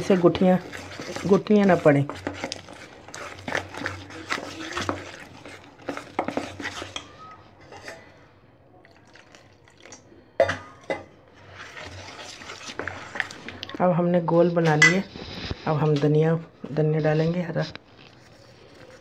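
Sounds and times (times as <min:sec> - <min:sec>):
metal spoon stirring batter in bowl: 0:00.0 - 0:08.3, 0:10.7 - 0:19.0.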